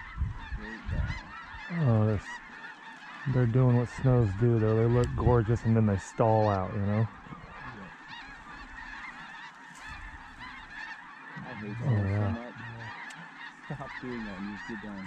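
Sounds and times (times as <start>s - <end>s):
geese honking: 0.0s - 15.0s.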